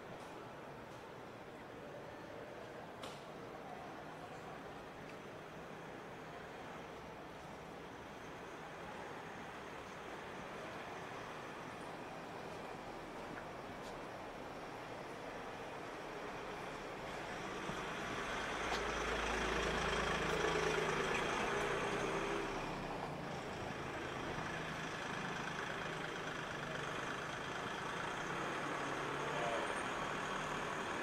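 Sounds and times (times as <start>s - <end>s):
street noise: 0.0s - 31.0s.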